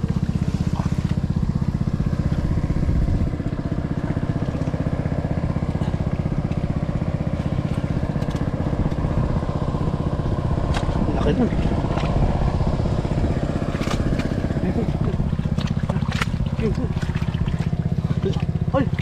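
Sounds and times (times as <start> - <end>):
water pump engine running: 0.0 - 19.0.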